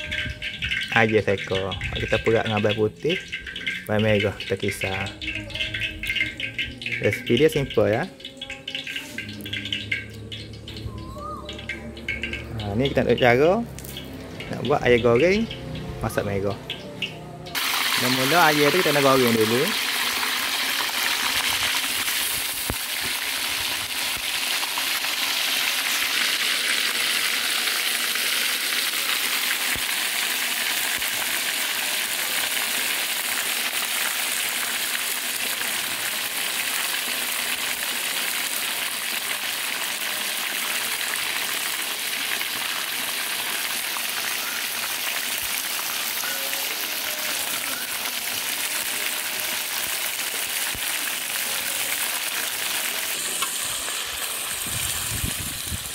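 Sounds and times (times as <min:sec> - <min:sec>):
chicken deep-frying in oil: 0:00.0 - 0:55.9.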